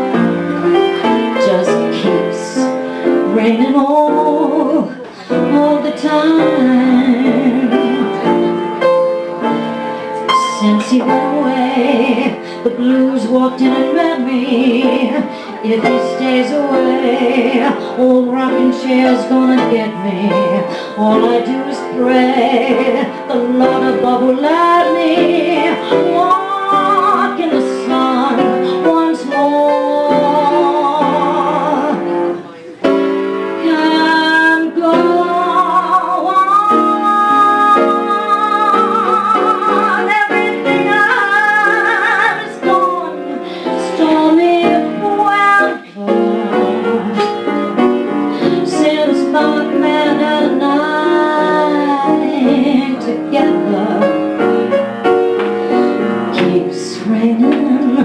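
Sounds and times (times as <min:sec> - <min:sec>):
woman singing jazz ballad: 0:00.0 - 0:54.5, 0:55.6 - 0:58.0
piano: 0:00.0 - 0:58.0.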